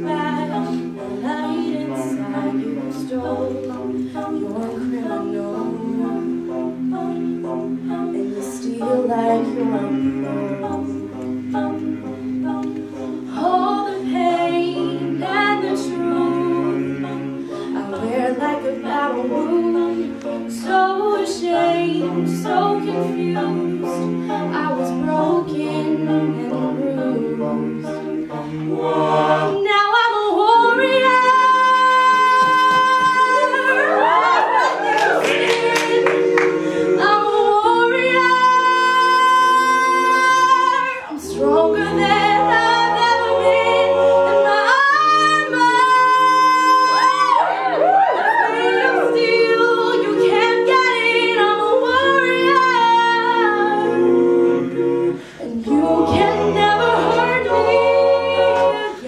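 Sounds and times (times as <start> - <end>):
woman singing lead: 0.0 - 27.6, 29.2 - 54.1
backing singers holding chords: 0.0 - 59.0.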